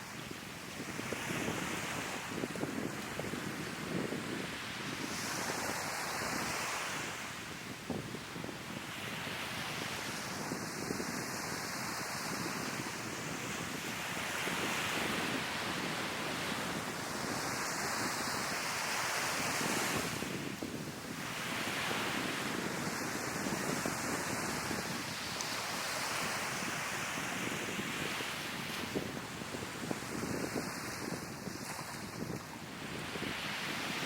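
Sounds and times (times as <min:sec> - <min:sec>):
sea waves washing onto shore: 0:00.0 - 0:34.0
wind buffeting the microphone: 0:00.0 - 0:34.0.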